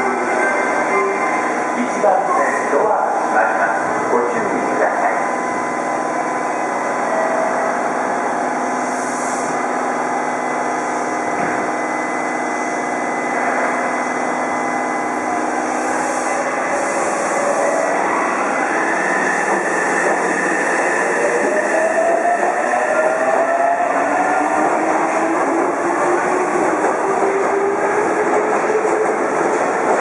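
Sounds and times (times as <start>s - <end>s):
electric train hum: 0.0s - 30.0s.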